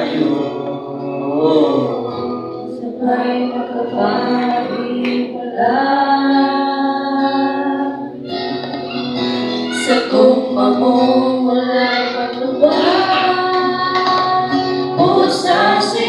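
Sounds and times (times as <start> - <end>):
group singing worship song: 0.0 - 16.0.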